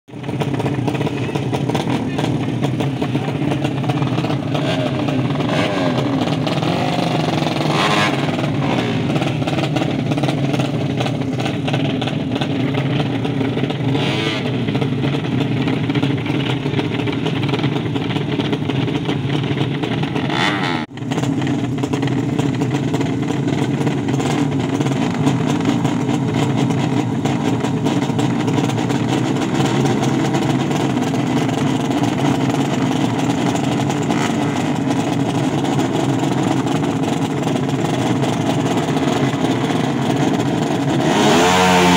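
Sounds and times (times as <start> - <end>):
racing motorcycle engine revving: 0.2 - 41.9.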